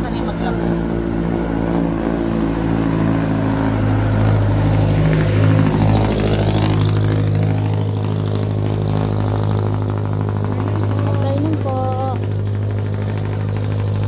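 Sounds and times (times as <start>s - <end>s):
diesel engine passing by: 0.0s - 14.0s.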